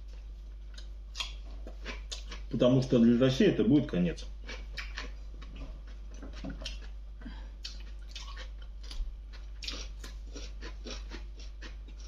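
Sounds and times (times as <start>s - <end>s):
person chewing food: 0.0s - 2.7s, 4.2s - 12.0s.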